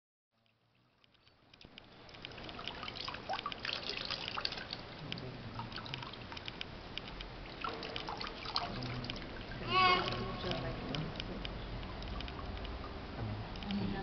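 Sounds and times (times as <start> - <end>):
water trickling into stone font: 0.4 - 13.1.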